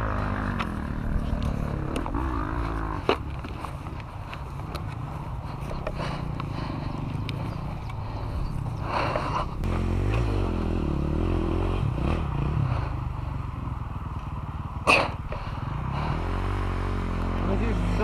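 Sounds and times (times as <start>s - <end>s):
dirt bike engines idling: 0.0s - 18.0s.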